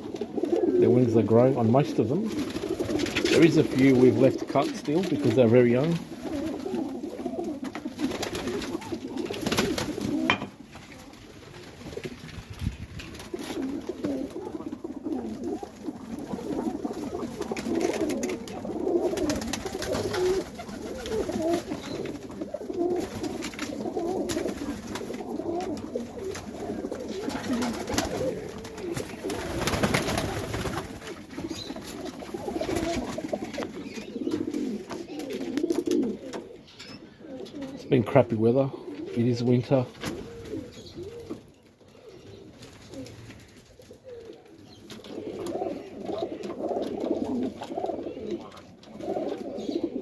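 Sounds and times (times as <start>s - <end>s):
pigeons cooing: 0.0s - 12.3s, 13.0s - 50.0s.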